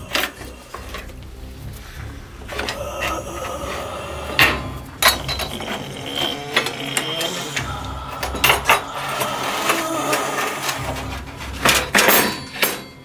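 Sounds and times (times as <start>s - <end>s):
metal scraping: 0.0s - 13.0s.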